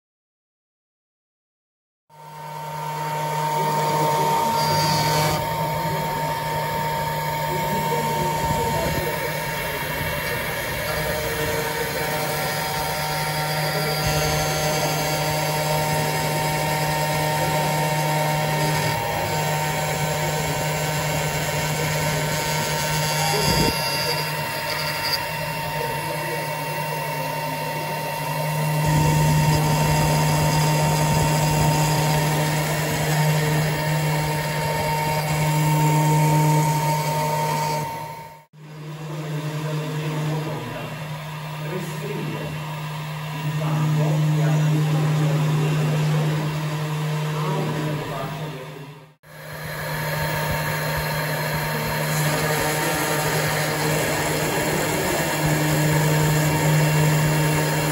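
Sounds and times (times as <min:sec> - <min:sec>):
router spindle whine: 0:02.1 - 0:57.9.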